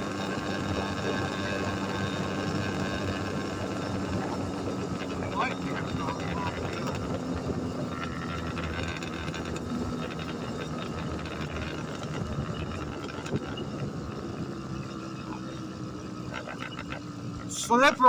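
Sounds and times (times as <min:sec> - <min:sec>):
hazy engine noise: 0:00.0 - 0:18.0
small engine running: 0:00.0 - 0:18.0.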